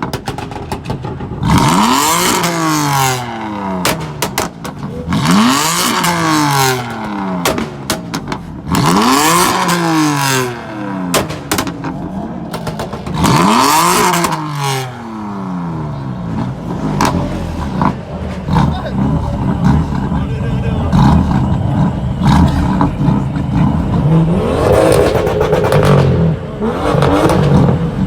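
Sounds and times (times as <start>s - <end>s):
exhaust pops and crackles: 0.0s - 10.4s, 11.1s - 14.8s, 16.2s - 28.0s
car engine revving: 0.0s - 28.0s.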